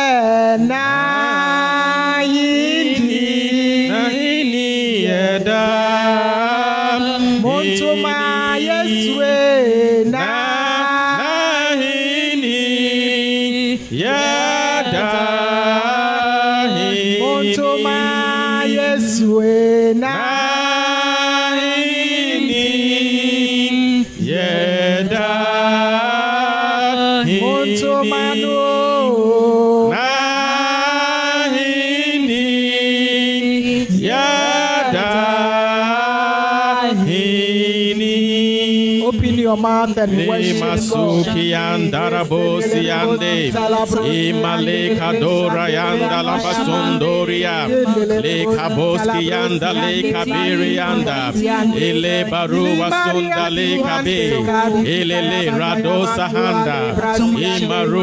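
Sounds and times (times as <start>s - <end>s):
person singing over microphone: 0.0s - 58.0s
voices singing together: 0.0s - 58.0s.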